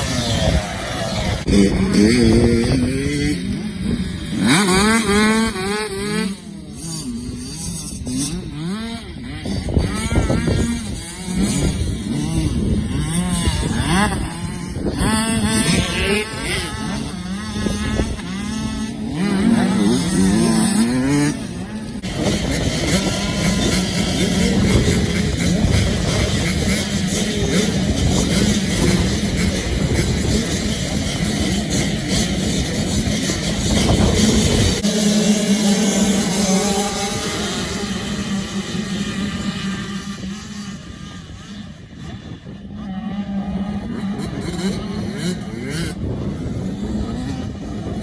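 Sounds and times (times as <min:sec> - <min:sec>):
motocross bike engines revving: 0:00.0 - 0:48.0.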